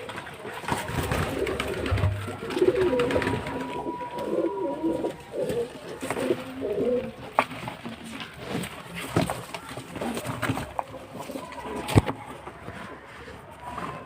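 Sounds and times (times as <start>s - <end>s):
pigeons cooing: 0.0s - 12.2s.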